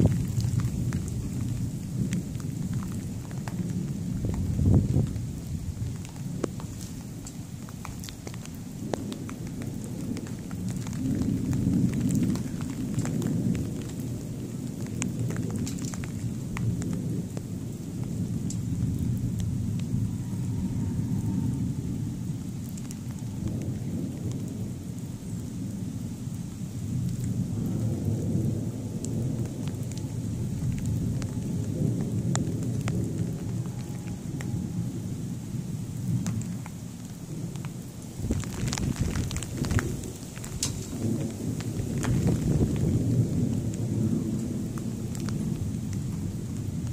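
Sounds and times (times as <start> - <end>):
raindrops ticking: 0.0 - 20.5, 21.2 - 46.9
steady rain: 0.0 - 46.9
thunder rumbling: 0.0 - 46.9.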